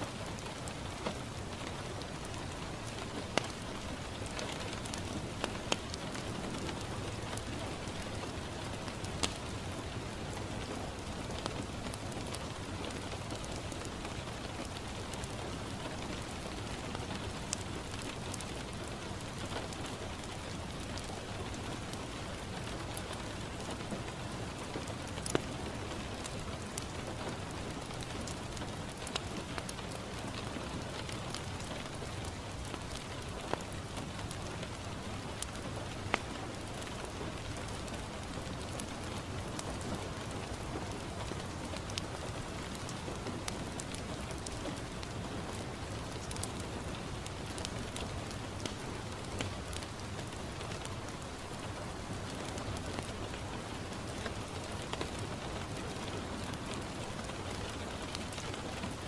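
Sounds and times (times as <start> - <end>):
rain pattering on a window: 0.0 - 59.0
wood fire crackling and popping: 0.1 - 59.0.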